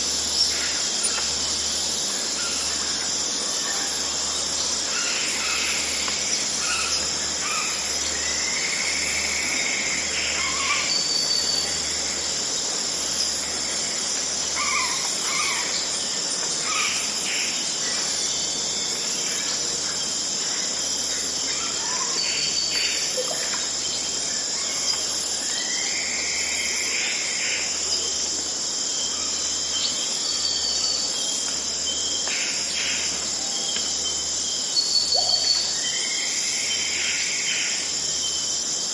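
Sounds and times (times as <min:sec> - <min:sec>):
insects chorus: 0:00.0 - 0:38.9.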